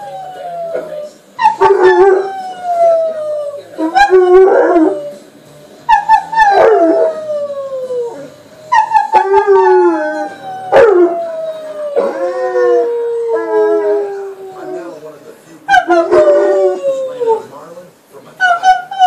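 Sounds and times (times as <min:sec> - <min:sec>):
dog howling: 0:00.0 - 0:05.2, 0:05.9 - 0:15.0, 0:15.7 - 0:17.5.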